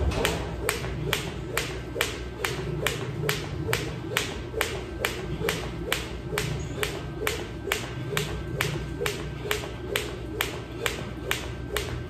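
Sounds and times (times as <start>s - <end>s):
steady low hum: 0.0s - 12.0s
sharp rhythmic clicks: 0.1s - 12.0s.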